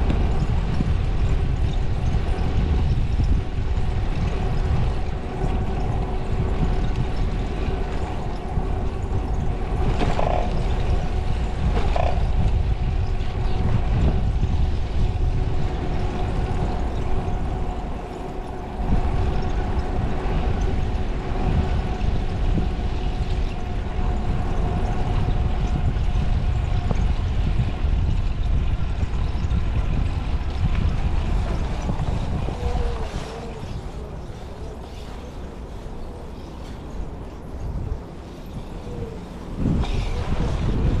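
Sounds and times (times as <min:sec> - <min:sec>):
wind rumbling on microphone: 0:00.0 - 0:41.0.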